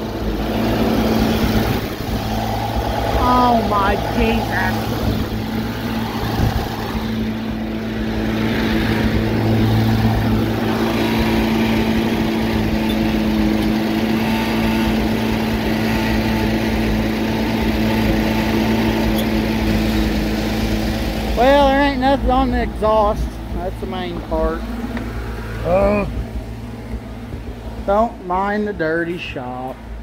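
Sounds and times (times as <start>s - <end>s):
tractor engine idling: 0.0s - 30.0s.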